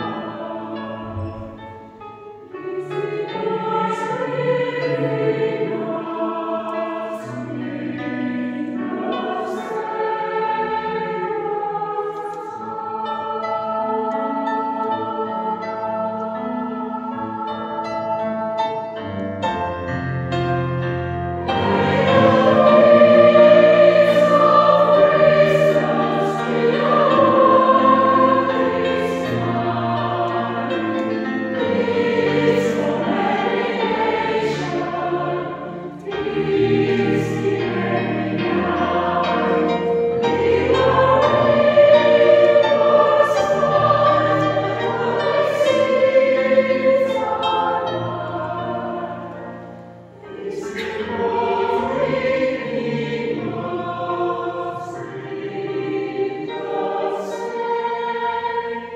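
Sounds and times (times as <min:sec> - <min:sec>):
choir singing a carol: 0:00.0 - 0:58.9.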